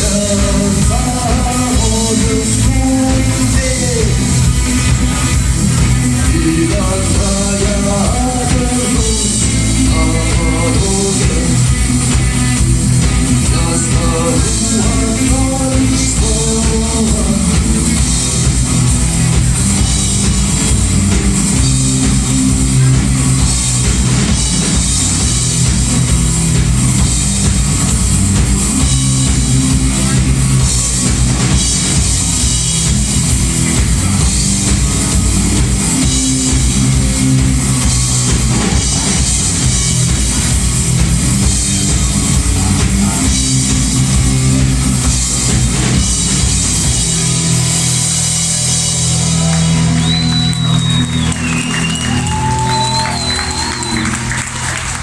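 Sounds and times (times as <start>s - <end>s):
rock music with drums and guitar: 0.0s - 55.0s.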